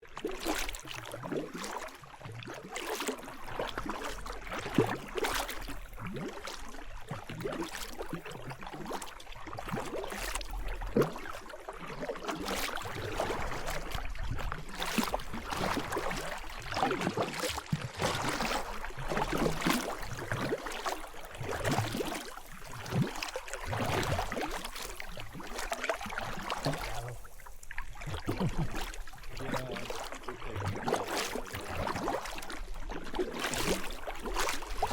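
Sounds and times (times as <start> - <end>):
moving water: 0.0 - 34.9
paddle strokes splashing: 0.1 - 34.9.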